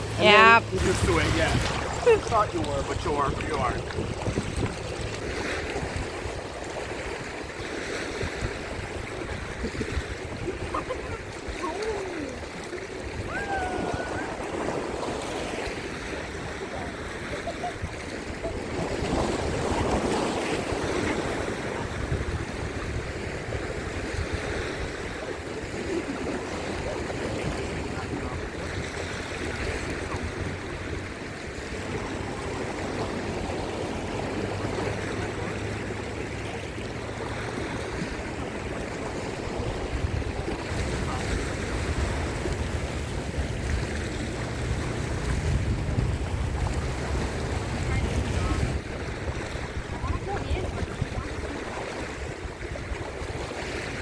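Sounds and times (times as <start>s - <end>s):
ocean surf washing onto beach: 0.0s - 54.0s
wind buffeting microphone: 0.0s - 54.0s.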